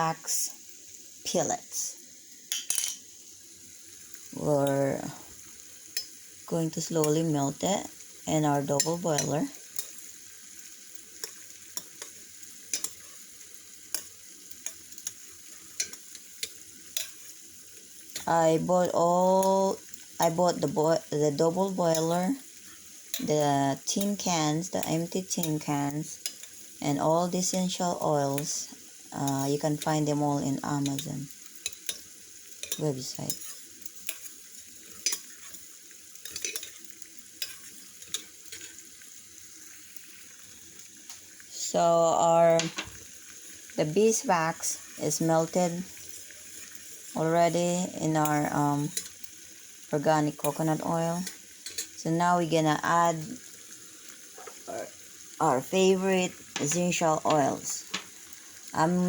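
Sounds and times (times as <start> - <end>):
high sizzling hiss: 0.0 - 59.0.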